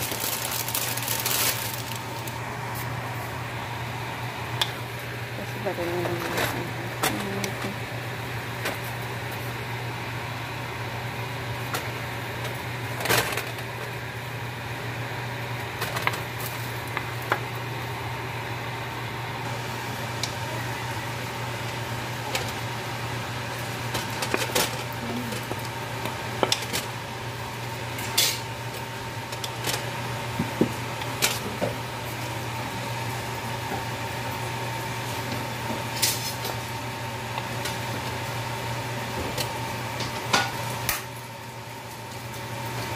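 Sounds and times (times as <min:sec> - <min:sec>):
steady low hum: 0:00.0 - 0:42.8.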